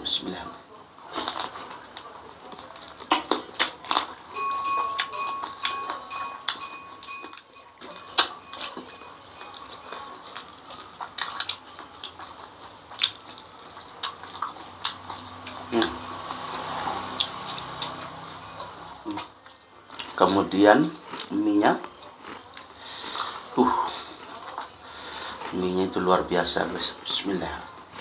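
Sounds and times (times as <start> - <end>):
wet chewing and smacking: 1.1 - 28.0.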